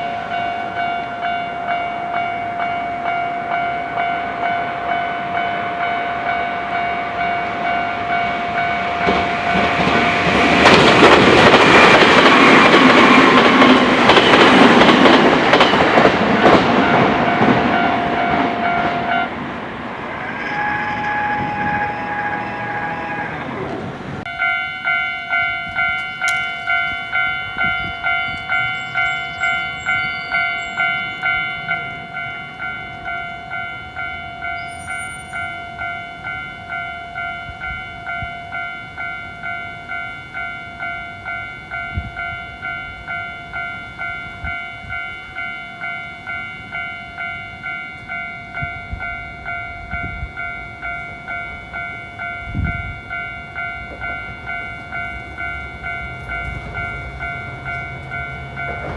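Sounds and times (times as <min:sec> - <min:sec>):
level crossing warning bell ringing: 0:00.0 - 0:58.9.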